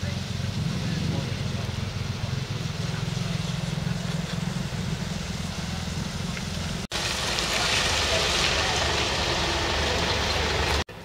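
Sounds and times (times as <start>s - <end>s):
bus diesel engine throbbing: 0.0s - 6.9s, 7.9s - 11.0s.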